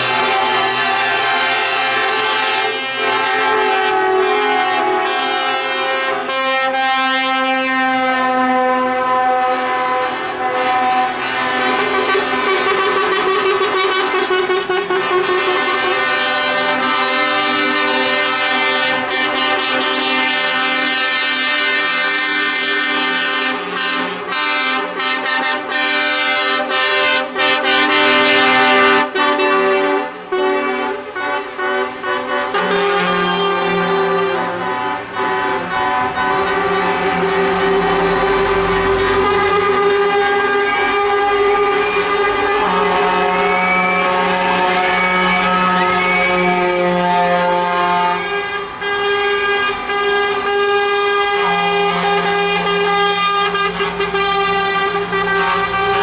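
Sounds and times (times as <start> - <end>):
truck air horns: 0.0 - 56.0.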